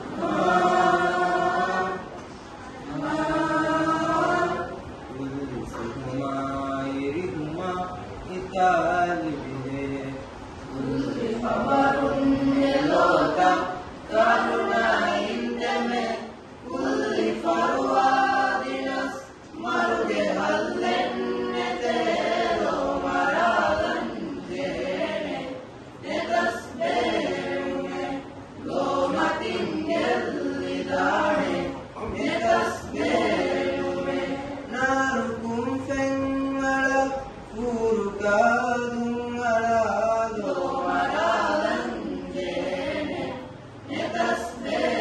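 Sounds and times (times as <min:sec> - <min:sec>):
children's choir singing unaccompanied: 0:00.0 - 0:45.0.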